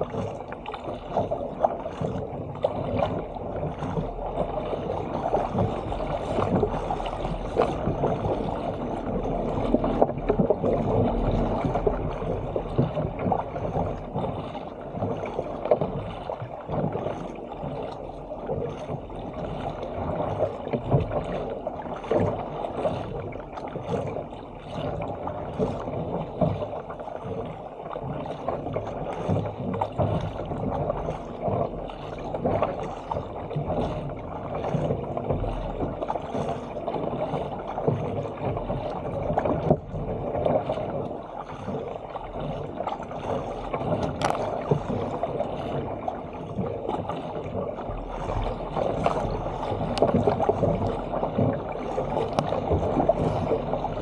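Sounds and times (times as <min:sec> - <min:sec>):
water rushing and splashing: 0:00.0 - 0:54.0.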